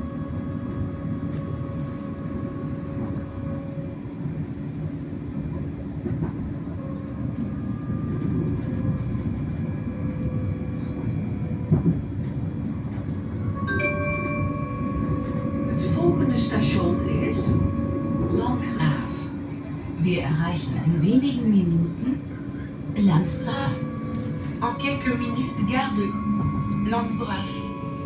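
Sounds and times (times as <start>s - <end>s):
faint steady tones: 0.0s - 28.0s
train wheels rumbling on rail: 0.0s - 28.0s.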